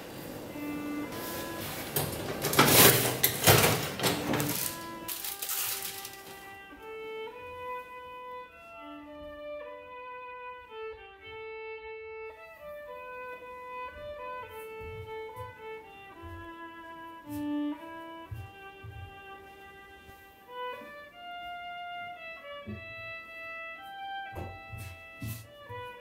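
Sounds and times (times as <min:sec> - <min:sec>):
violin playing slow melody: 0:00.0 - 0:02.4, 0:04.1 - 0:26.0.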